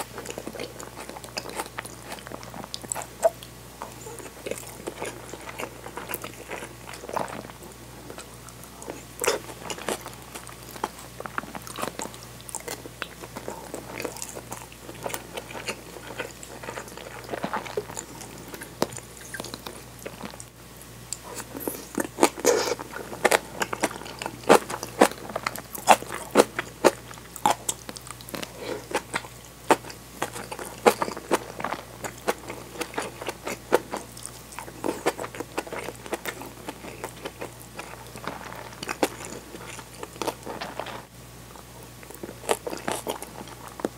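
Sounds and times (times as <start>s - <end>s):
cabbage crunching: 0.0s - 20.4s, 21.2s - 41.1s, 42.0s - 43.9s
person chewing food: 0.0s - 20.5s, 21.1s - 43.9s.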